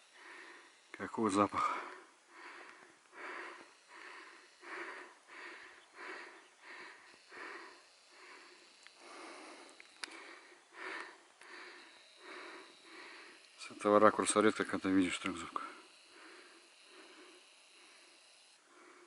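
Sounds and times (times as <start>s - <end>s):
person breathing heavily: 0.0s - 13.8s, 15.4s - 19.0s.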